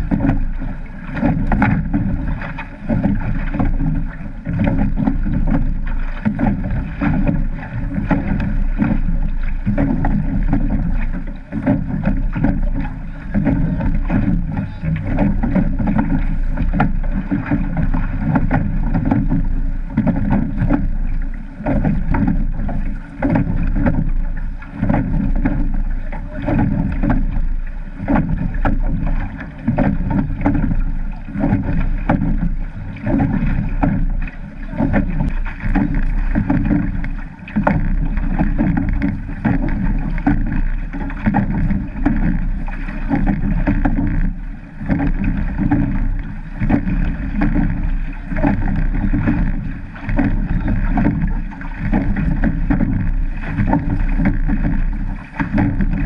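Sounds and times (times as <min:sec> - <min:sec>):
water splashing along boat hull: 0:00.0 - 0:56.0.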